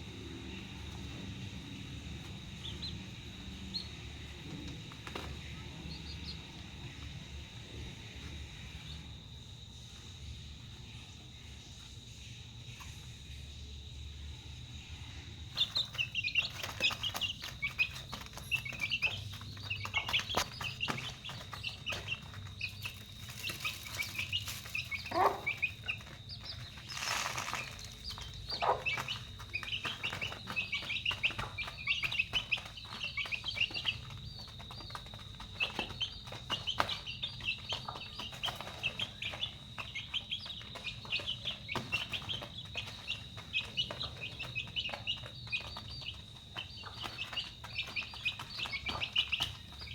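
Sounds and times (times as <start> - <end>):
chicks peeping: 0.0 - 13.1, 15.0 - 49.9.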